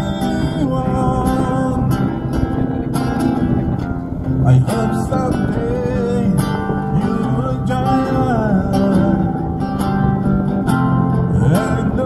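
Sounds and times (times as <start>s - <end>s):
man singing amplified: 0.0s - 9.8s, 11.0s - 12.0s
strummed acoustic guitar: 0.0s - 12.0s.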